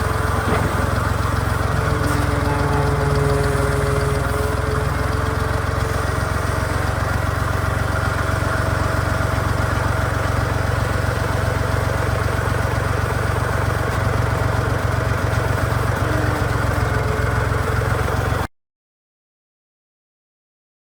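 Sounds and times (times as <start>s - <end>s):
tractor engine running: 0.0s - 18.5s.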